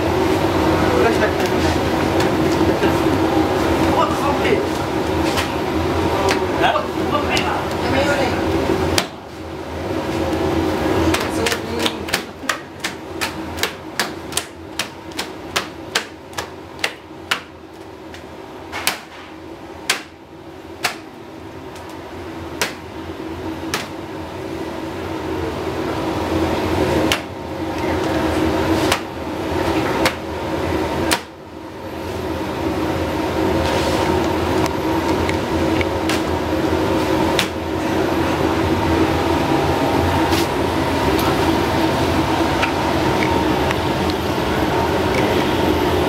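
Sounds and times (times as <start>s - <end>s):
steady hum: 0.0s - 46.0s.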